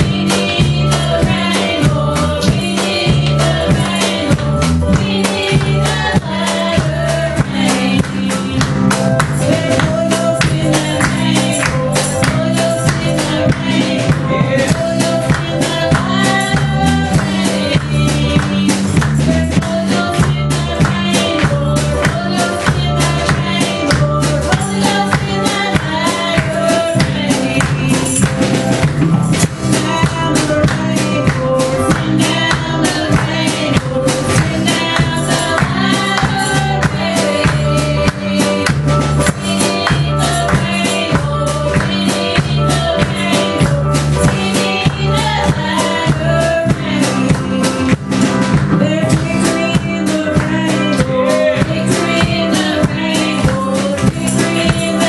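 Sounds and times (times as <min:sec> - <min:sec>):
women singing: 0:00.0 - 0:28.3, 0:29.7 - 0:48.1, 0:48.8 - 0:55.0
drum kit steady beat: 0:00.0 - 0:55.0
keyboard and bass: 0:00.0 - 0:55.0.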